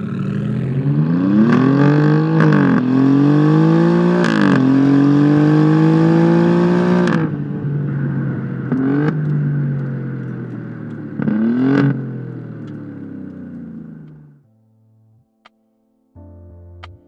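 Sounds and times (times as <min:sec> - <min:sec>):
car exhaust accelerating hard: 0:00.0 - 0:14.4
engine throttle blips: 0:00.0 - 0:14.4.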